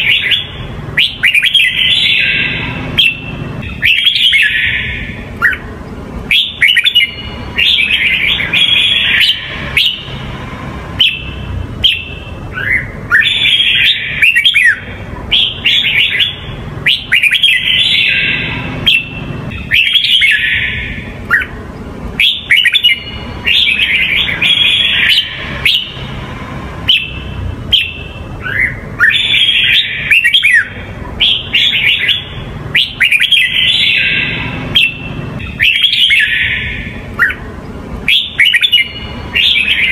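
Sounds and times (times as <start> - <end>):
bird singing warbled phrases: 0.0 - 39.9
low steady background hum: 0.0 - 39.9.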